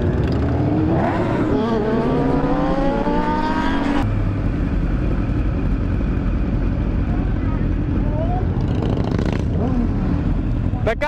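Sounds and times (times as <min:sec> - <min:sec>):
motorcycle engine revving: 0:00.0 - 0:07.0, 0:07.6 - 0:10.8
road noise: 0:00.0 - 0:11.0.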